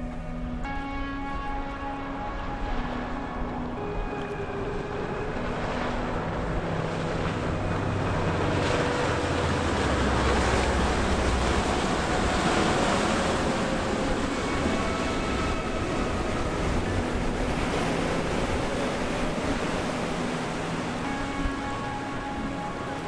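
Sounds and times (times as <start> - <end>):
low boat engine drone: 0.0 - 23.0
rush of boat wake water: 0.0 - 23.0
wind on microphone: 1.3 - 23.0.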